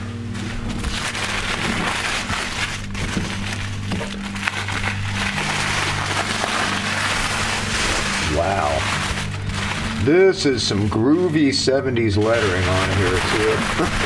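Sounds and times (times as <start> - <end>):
low background music: 0.0 - 14.0
packing material crinkling: 0.0 - 14.0.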